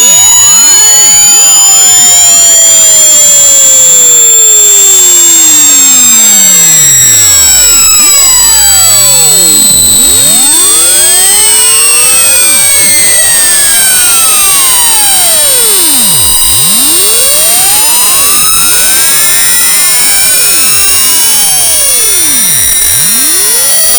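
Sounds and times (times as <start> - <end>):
high-pitched whistles: 0.0 - 23.9
sweeping test tones: 0.0 - 23.9.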